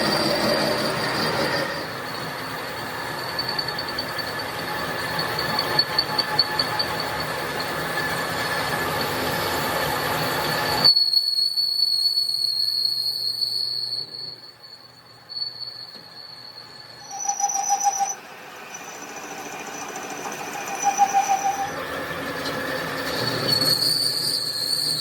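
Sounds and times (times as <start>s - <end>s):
metallic squeal: 0.0s - 25.0s.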